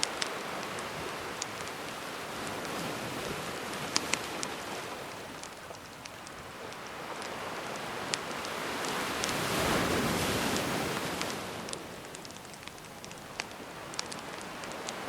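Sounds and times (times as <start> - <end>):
campfire crackling and popping: 0.0 - 15.0
sea waves washing ashore: 0.0 - 15.0.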